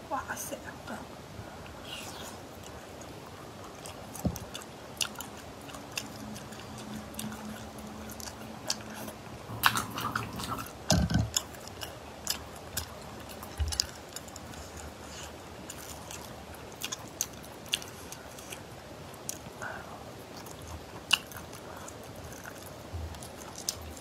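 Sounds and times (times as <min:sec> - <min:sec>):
chewing: 0:01.9 - 0:24.0.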